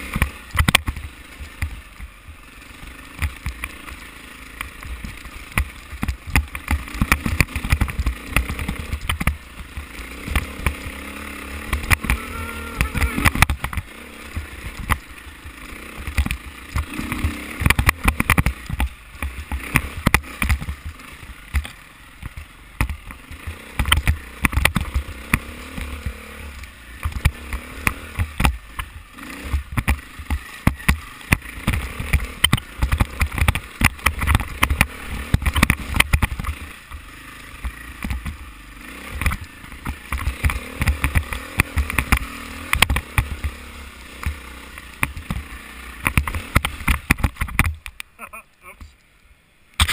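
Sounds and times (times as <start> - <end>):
bike knocking and rattling: 0.0 - 48.2
dirt bike engine: 0.0 - 49.9.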